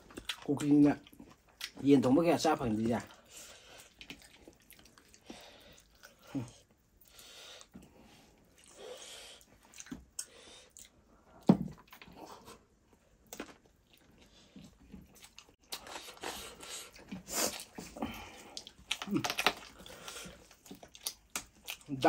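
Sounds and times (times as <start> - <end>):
people chewing and crunching: 0.0 - 22.0.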